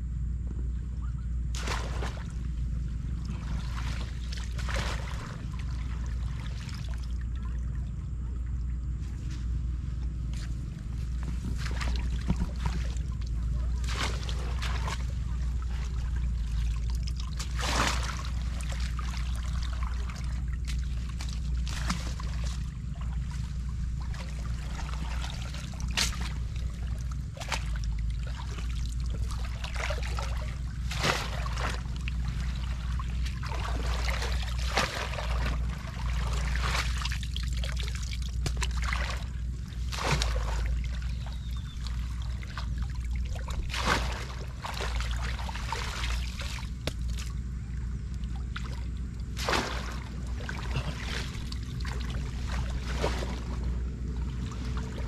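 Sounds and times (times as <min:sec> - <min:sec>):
low rumble: 0:00.0 - 0:55.0
water trickling and splashing: 0:01.6 - 0:55.0.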